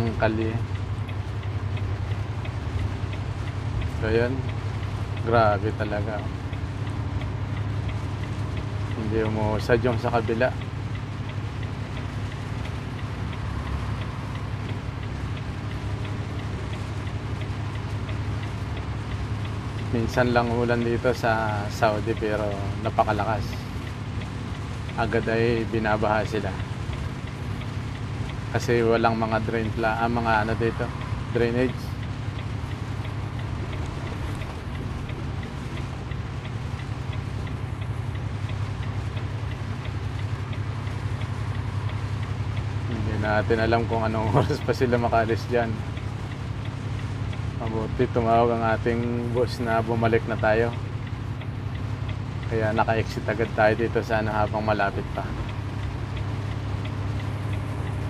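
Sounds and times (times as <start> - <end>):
faint regular ticking: 0.0 - 58.0
vehicle engine and tyres on wet road: 0.0 - 58.0.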